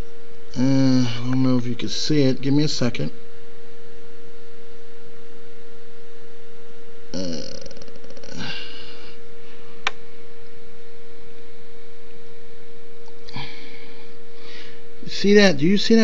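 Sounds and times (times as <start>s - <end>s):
mid-pitched hum: 0.0s - 16.0s.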